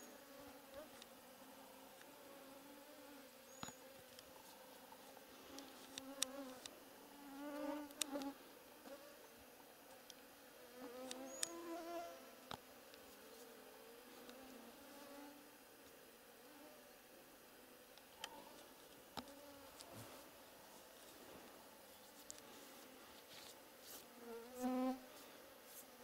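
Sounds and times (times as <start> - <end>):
flying insects buzzing: 0.0 - 26.0.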